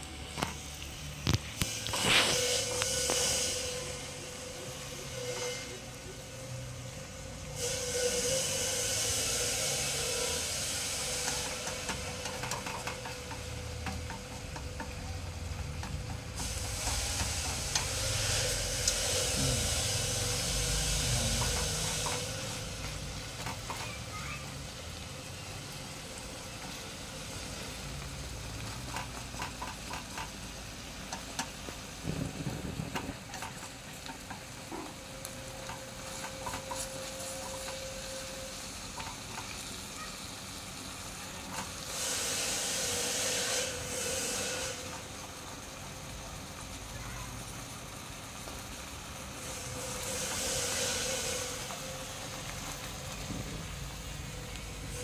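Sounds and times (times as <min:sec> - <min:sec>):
fish deep-frying in bubbling oil: 0:00.0 - 0:55.0.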